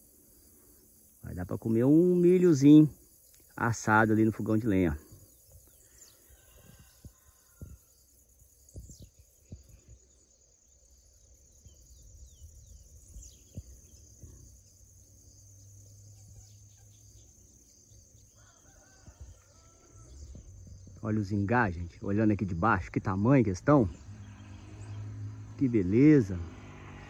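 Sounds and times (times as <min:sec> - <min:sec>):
bird chirps: 0:00.0 - 0:26.2
high insect drone: 0:00.0 - 0:27.0.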